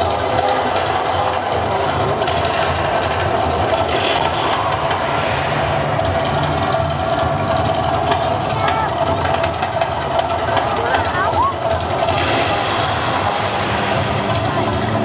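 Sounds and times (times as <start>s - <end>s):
volcano attraction rumbling roar: 0.0s - 15.0s.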